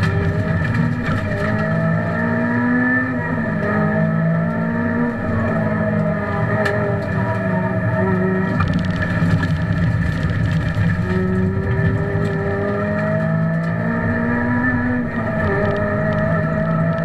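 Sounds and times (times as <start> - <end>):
rally car engine running hard: 0.0 - 17.0.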